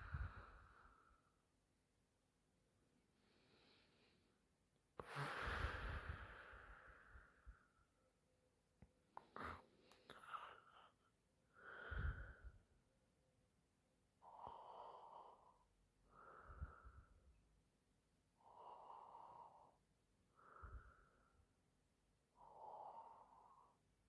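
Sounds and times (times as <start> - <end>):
soft breathy breaths: 0.0 - 1.5, 3.1 - 8.2, 8.8 - 13.0, 14.1 - 24.0.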